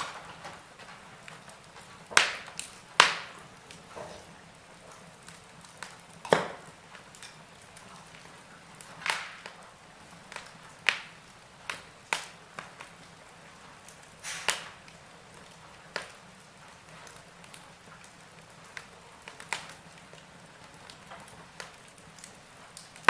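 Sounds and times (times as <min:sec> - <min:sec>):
faint steady hiss: 0:00.0 - 0:23.0
wood fire crackling: 0:00.0 - 0:23.0.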